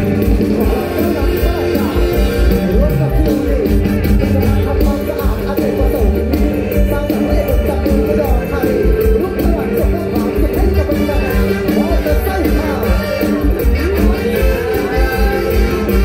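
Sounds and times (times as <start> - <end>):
live amplified band music: 0.0 - 16.0
steady drum beat: 0.0 - 16.0.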